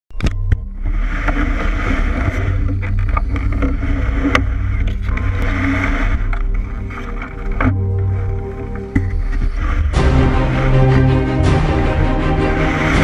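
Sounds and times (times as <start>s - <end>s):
low rumble through hull: 0.1s - 13.0s
reeds scraping canoe hull: 0.4s - 13.0s.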